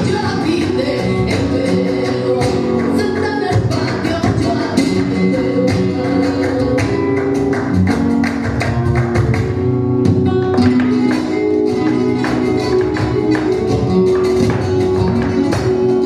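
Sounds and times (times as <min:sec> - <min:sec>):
flamenco acoustic guitar: 0:00.0 - 0:16.0.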